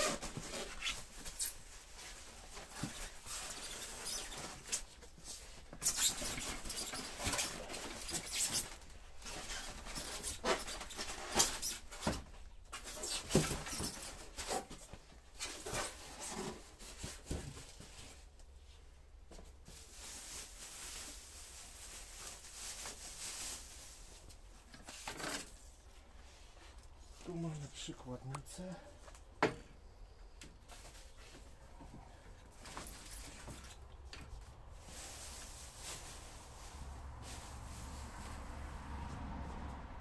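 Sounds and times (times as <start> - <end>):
foam and plastic wrap rustling: 0.0 - 28.8, 30.6 - 38.7.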